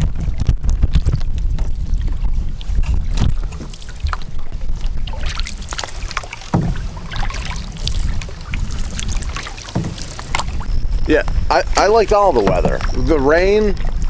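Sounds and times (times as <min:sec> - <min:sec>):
paddle strokes in water: 0:00.0 - 0:10.8, 0:11.6 - 0:14.0
wind buffeting microphone: 0:00.0 - 0:14.0.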